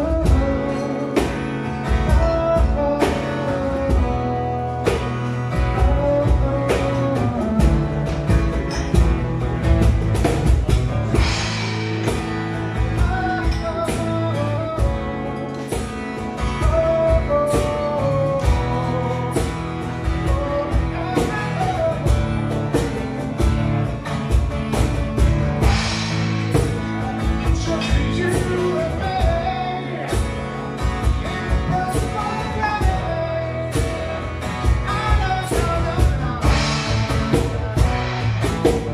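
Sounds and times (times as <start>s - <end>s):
man singing into microphone: 0.0s - 8.3s, 12.5s - 22.9s, 25.6s - 38.9s
acoustic guitar strumming: 0.0s - 38.9s.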